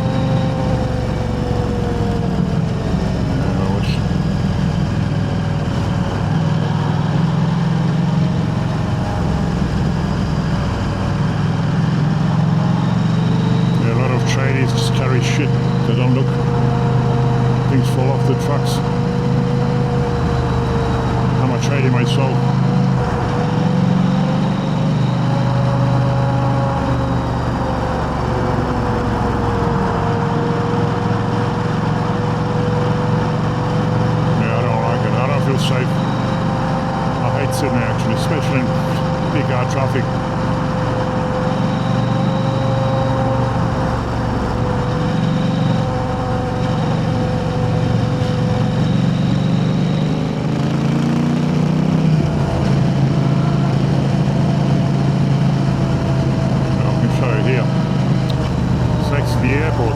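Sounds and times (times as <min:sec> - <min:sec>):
motorcycle engine running steadily: 0:00.0 - 0:59.9
road noise: 0:00.0 - 0:59.9.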